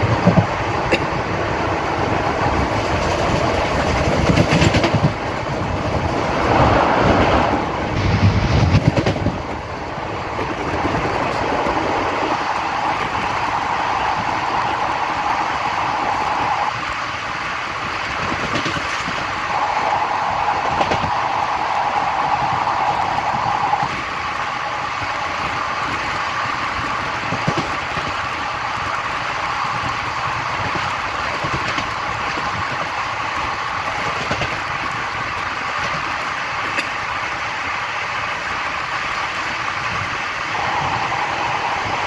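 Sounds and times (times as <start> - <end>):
rushing air: 0.0 - 42.0
train wheels rumbling on rails: 0.0 - 42.0.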